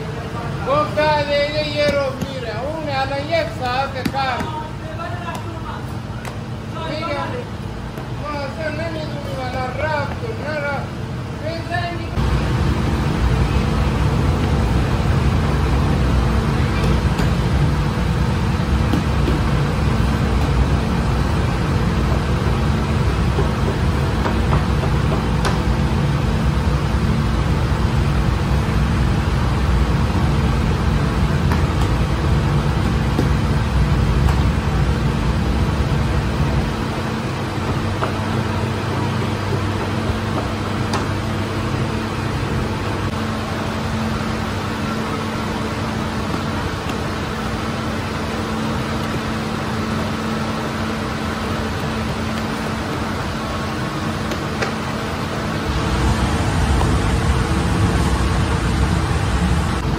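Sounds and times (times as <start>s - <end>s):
machinery rumbling: 0.0s - 59.9s.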